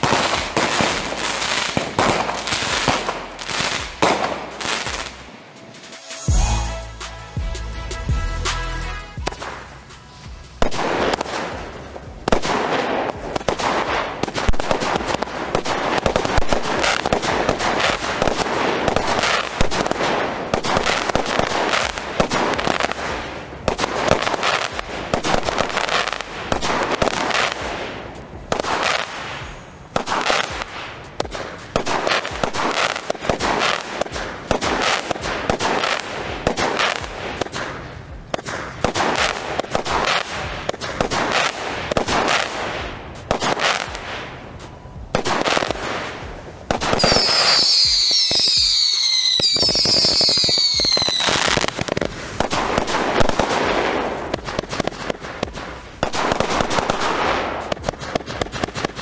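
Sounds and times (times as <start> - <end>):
firework crackling bursts: 0.0 - 7.4, 8.4 - 59.0.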